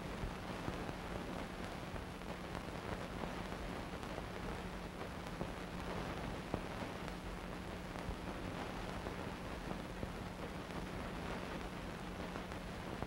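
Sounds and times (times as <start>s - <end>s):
steady film hiss: 0.0s - 13.0s.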